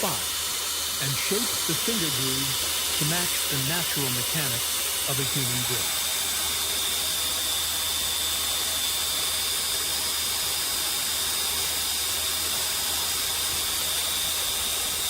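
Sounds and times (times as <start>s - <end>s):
power sander running: 0.0s - 15.0s.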